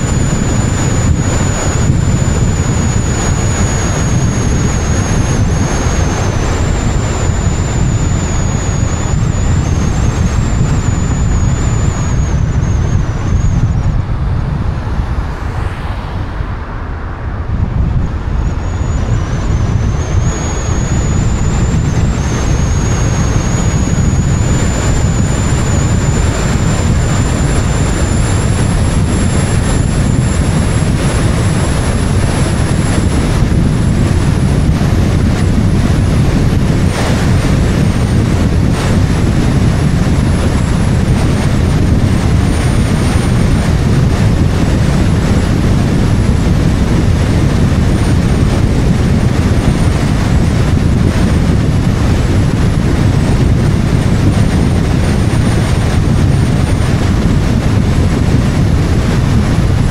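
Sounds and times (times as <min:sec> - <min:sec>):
faint high whine: 0:00.0 - 0:59.9
wind and road noise rumble: 0:00.0 - 0:59.9.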